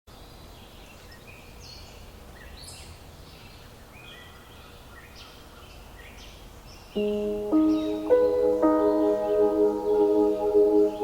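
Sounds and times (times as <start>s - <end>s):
songbirds chirping and warbling: 0.1s - 11.0s.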